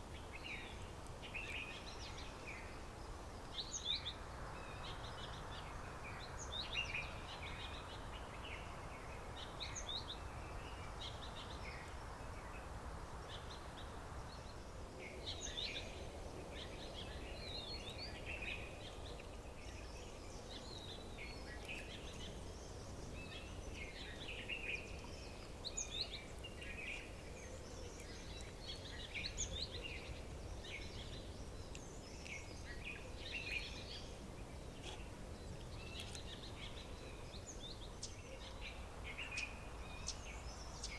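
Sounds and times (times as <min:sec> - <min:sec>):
small birds chirping and trilling: 0:00.1 - 0:40.9.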